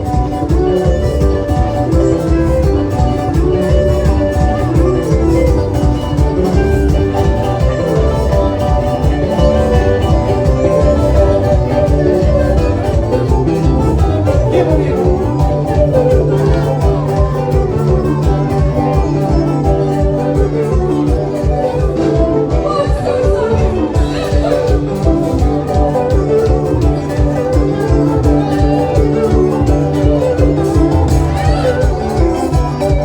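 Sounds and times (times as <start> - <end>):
live band dance music: 0.0 - 33.0
person singing: 0.0 - 33.0.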